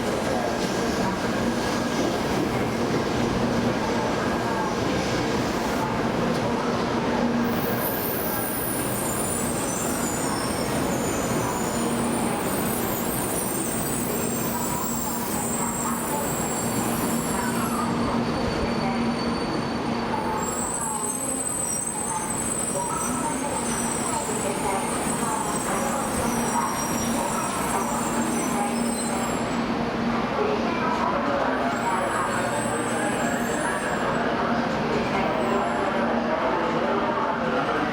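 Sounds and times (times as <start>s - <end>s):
train running and equipment noise: 0.0s - 37.9s.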